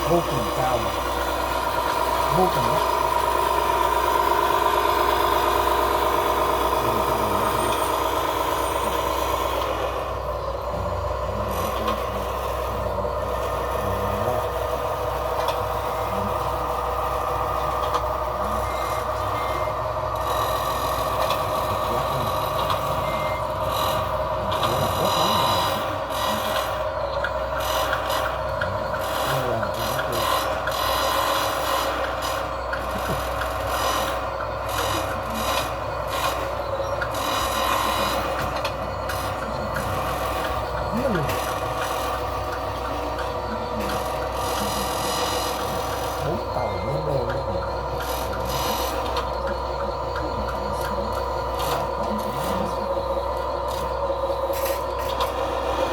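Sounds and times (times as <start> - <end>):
toy truck motor drone and whine: 0.0 - 55.9.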